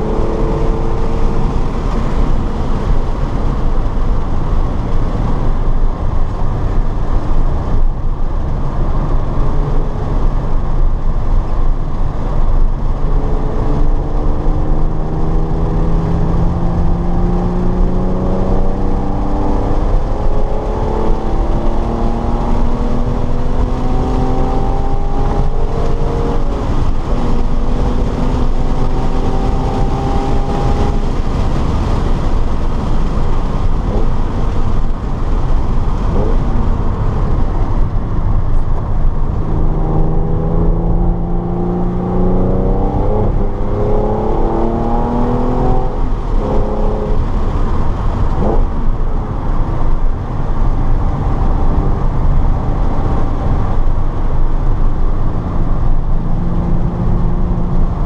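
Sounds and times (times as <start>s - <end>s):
car engine accelerating: 0.0s - 58.0s
rumbling wind and road noise: 0.0s - 58.0s.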